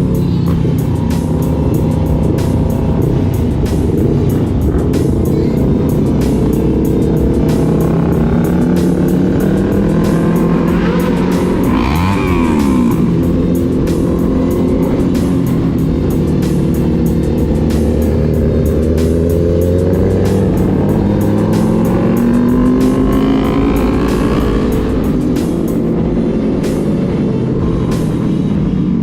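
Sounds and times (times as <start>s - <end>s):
motorcycle engine revving: 0.0s - 29.0s
music with steady beat: 0.0s - 29.0s.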